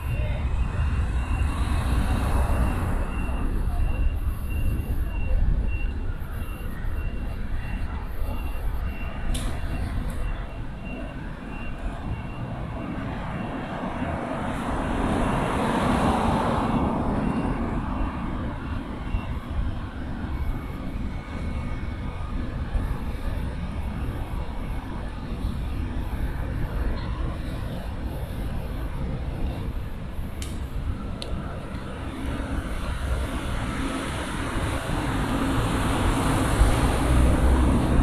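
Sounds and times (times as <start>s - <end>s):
loud engine noise: 0.0s - 38.0s
low traffic rumble: 0.0s - 38.0s.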